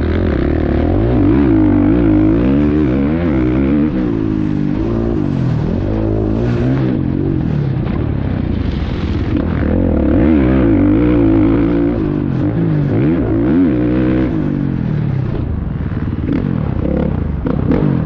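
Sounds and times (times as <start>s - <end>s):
two-stroke motocross engine revving: 0.0s - 7.4s, 9.3s - 14.8s, 15.9s - 18.0s.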